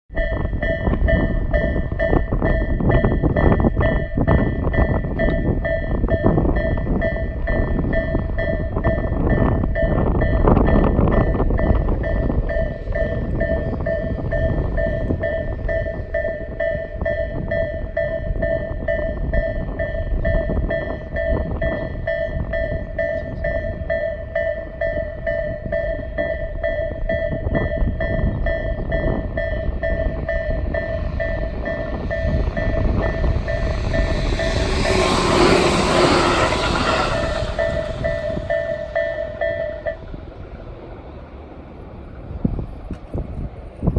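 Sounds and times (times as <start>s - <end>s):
electronic level-crossing bell: 0.1s - 40.5s
train approaching: 0.1s - 43.9s.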